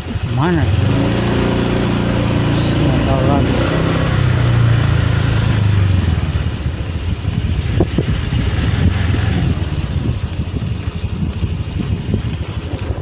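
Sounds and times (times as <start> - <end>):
motorcycle engine low rumble: 0.0 - 13.0.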